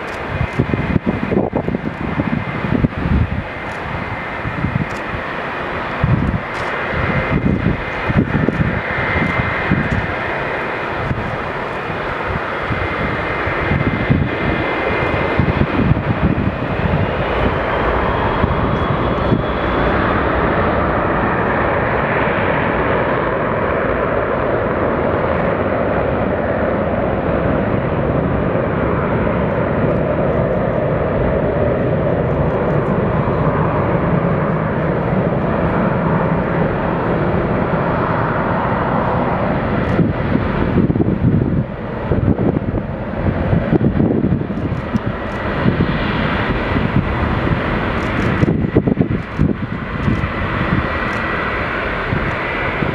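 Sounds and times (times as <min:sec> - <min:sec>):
jet engine whine: 0:00.0 - 0:52.9
jet engines roaring: 0:00.0 - 0:52.9.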